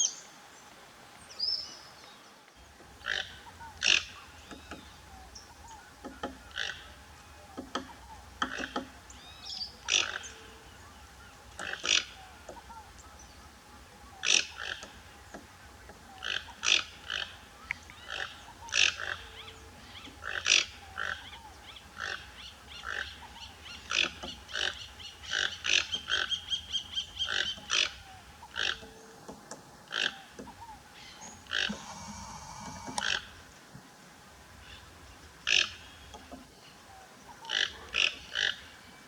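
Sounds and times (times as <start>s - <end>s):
bird harsh calls and trills: 1.3s - 33.6s, 34.5s - 39.0s.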